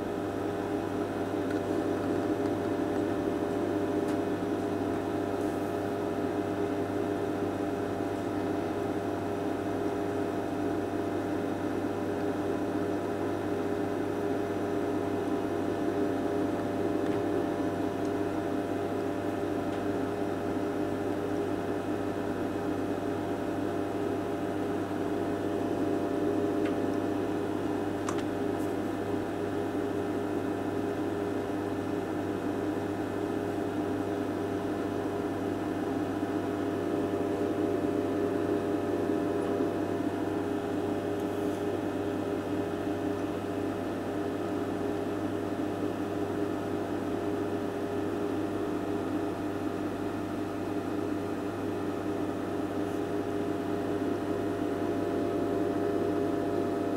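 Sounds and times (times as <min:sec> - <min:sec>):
steady electrical hum: 0:00.0 - 0:56.9.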